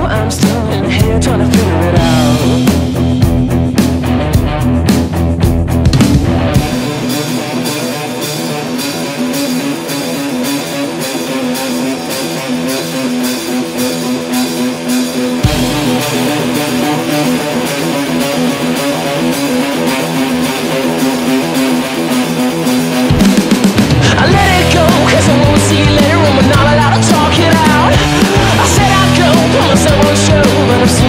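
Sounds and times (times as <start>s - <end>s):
instrumental rock music: 0.0s - 31.0s.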